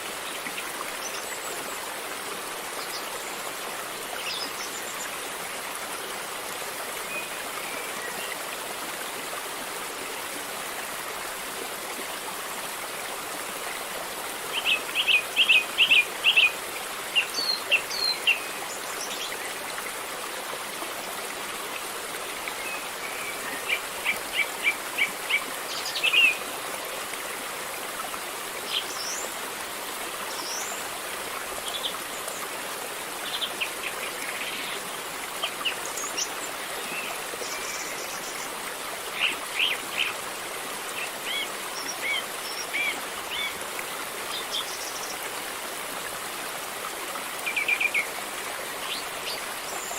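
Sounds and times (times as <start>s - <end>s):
river water flowing: 0.0s - 49.9s.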